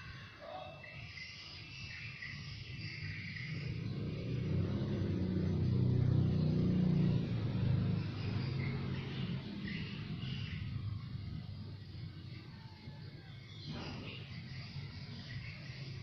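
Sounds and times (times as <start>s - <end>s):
vehicle engine droning low: 0.0s - 16.0s.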